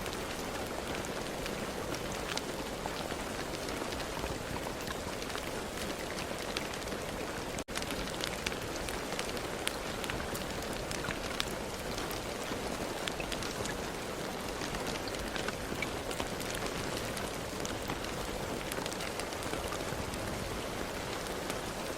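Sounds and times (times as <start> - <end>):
raindrops ticking: 0.0 - 21.9
steady rain hiss: 0.0 - 21.9.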